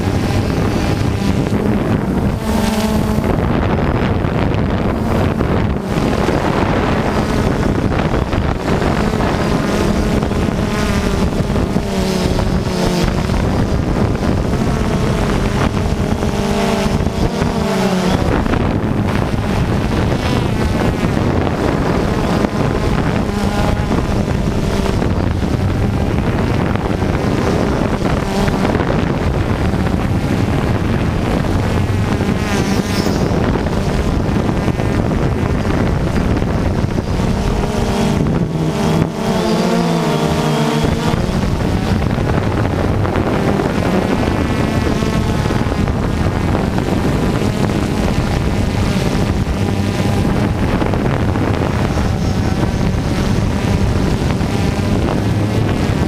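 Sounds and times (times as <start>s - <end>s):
rc cars motors revving: 0.0s - 56.0s
wind on microphone: 0.0s - 56.0s.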